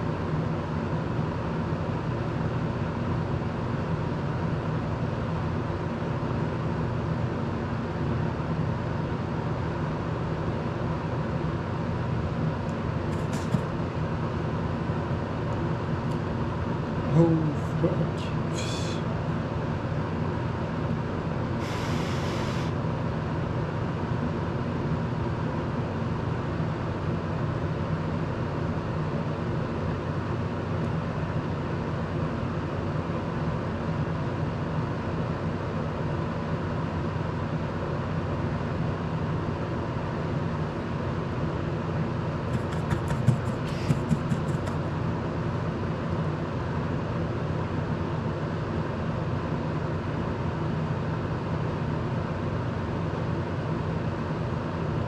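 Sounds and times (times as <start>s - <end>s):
desk fan whirring: 0.0s - 55.0s.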